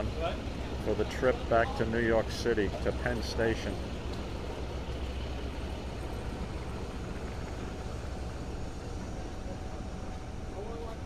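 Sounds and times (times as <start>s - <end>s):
diesel engines idling: 0.0s - 11.0s
faint steady hum: 0.0s - 11.0s.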